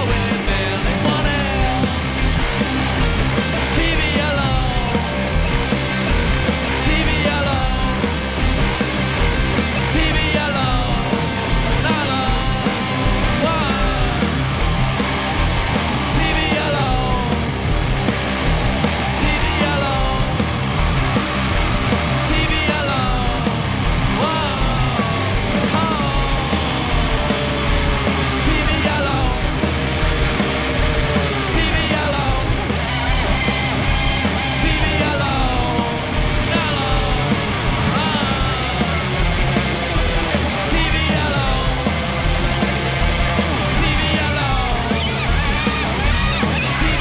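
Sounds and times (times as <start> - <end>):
heavy rock band playing live: 0.0 - 47.0
high wailing sliding notes: 7.5 - 47.0.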